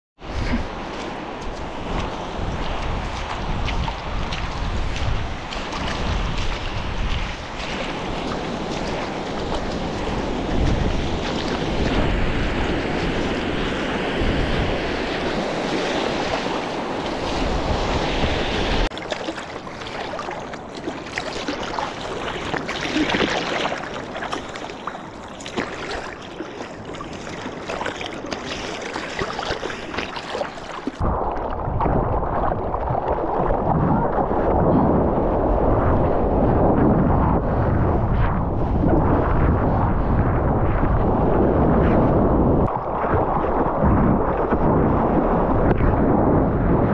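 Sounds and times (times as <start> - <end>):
seawater splashing and rushing: 0.2 - 46.9
wind on microphone: 0.2 - 46.9.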